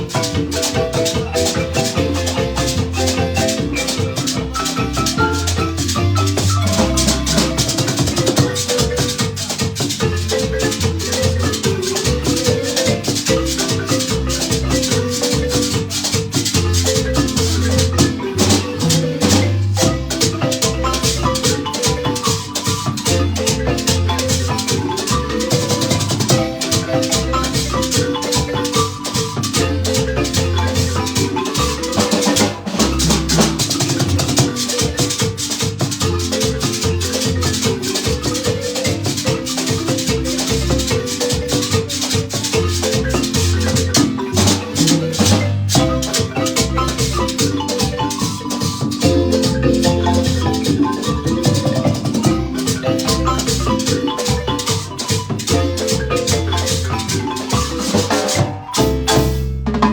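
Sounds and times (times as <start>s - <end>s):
drums: 0.0s - 59.9s
maracas rattling: 0.0s - 59.9s
marimba ensemble playing: 0.0s - 59.9s.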